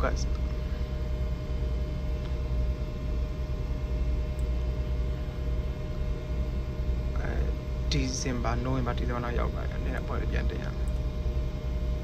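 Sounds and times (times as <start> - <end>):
ship machinery drone: 0.0 - 12.0
thin constant whine: 0.0 - 12.0.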